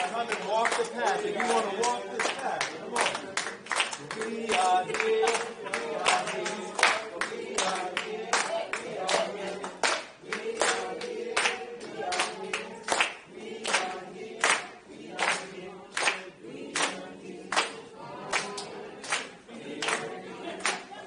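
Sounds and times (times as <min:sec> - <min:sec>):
hand claps: 0:00.0 - 0:20.9
group singing unaccompanied: 0:00.0 - 0:21.0.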